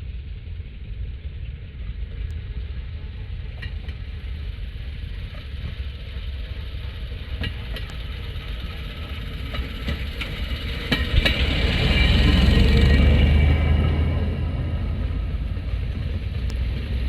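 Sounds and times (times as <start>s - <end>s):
small railroad motorcar engines rumbling: 0.0s - 17.0s.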